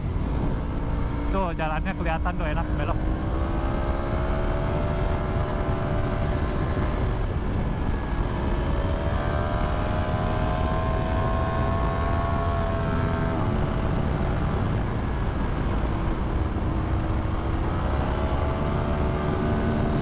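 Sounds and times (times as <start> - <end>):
wind rush: 0.0 - 20.0.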